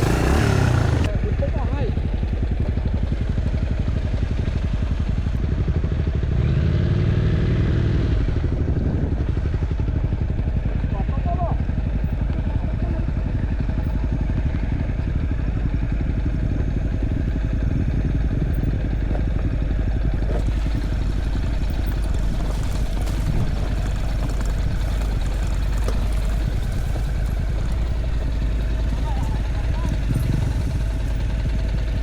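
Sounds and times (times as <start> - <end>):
motorbike engine running: 0.0 - 32.0.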